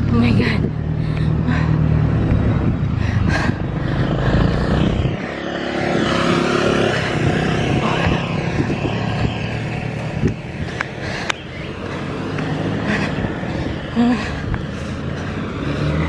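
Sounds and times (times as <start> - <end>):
motor scooter engine hum: 0.0 - 16.0
scooter riding past: 1.3 - 16.0.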